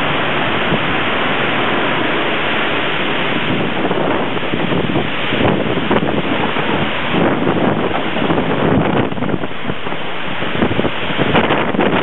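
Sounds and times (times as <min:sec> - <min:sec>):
driving rain: 0:00.0 - 0:12.0
wind buffeting microphone: 0:00.0 - 0:12.0
wind gusting through trees: 0:00.0 - 0:12.0.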